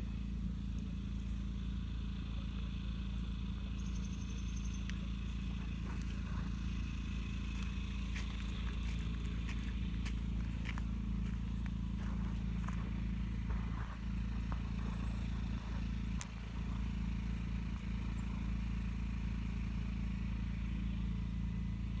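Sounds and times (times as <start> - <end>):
motor droning: 0.0 - 22.0.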